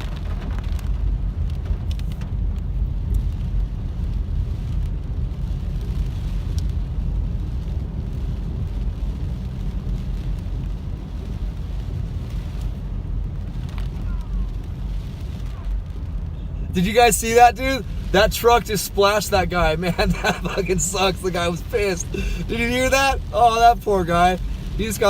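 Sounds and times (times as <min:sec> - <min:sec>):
car rumbling on wet road: 0:00.0 - 0:25.0.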